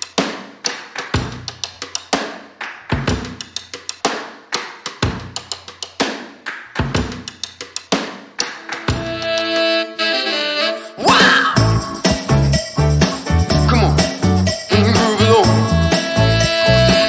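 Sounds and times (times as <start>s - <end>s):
drum kit playing a steady beat: 0.0s - 9.7s, 11.1s - 17.0s.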